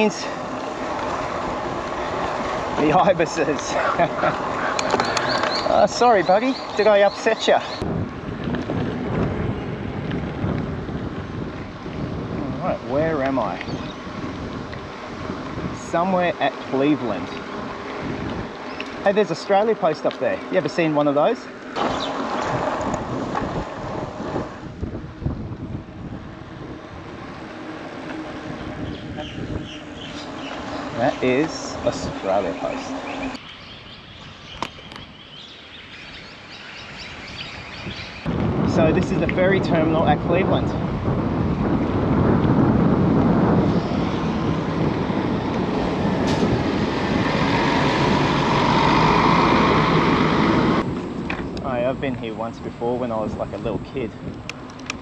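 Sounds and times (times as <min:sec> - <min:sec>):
bicycle rolling noise: 0:00.0 - 0:55.0
wind buffeting microphone: 0:00.0 - 0:55.0.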